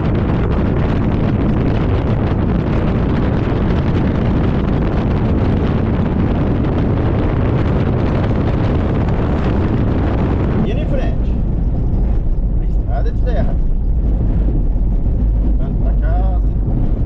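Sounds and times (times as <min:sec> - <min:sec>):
vehicle rumbling on dirt road: 0:00.0 - 0:17.0
wind buffeting microphone: 0:00.0 - 0:17.0.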